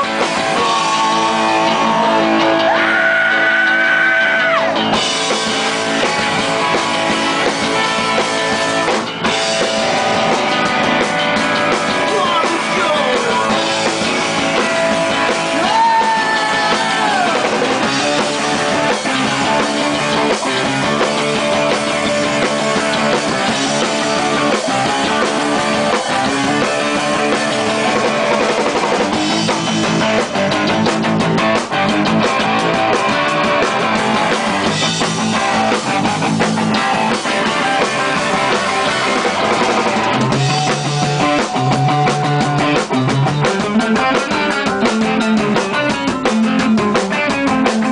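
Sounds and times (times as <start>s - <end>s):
drum kit with cymbals: 0.0s - 47.9s
electric guitar: 0.0s - 47.9s.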